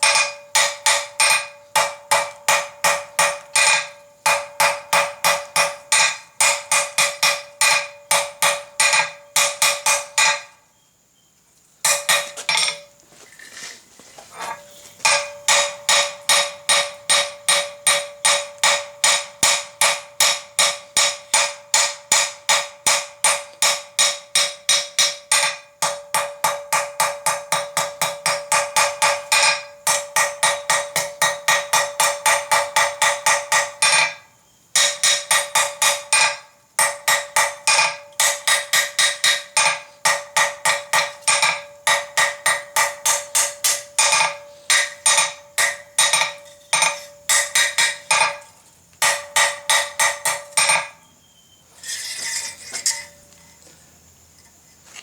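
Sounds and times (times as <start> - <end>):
hammer striking steel on anvil: 0.0 - 10.6, 11.8 - 12.9, 14.5 - 51.2.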